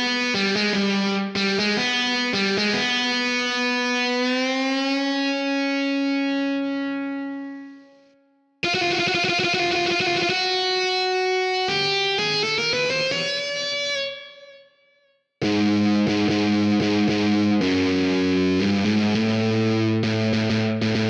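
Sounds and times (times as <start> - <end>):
distorted electric guitar: 0.0 - 14.7, 15.4 - 21.0.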